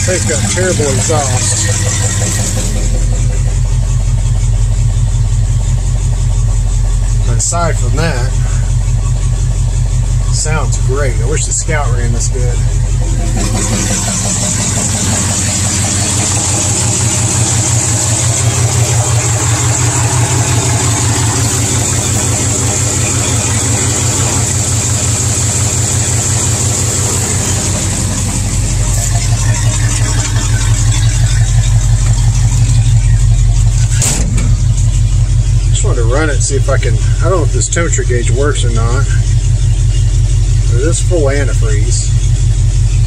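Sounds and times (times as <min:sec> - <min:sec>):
engine idling: 0:00.0 - 0:43.0
engine knock: 0:00.0 - 0:43.0.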